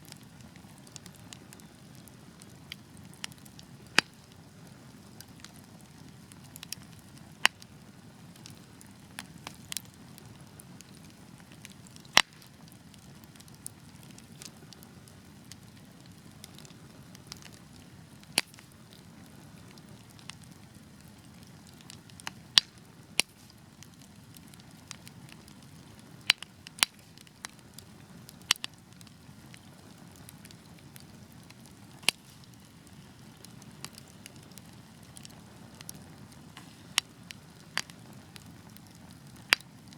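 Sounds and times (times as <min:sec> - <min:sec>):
logs popping and crackling: 0:00.0 - 0:39.9.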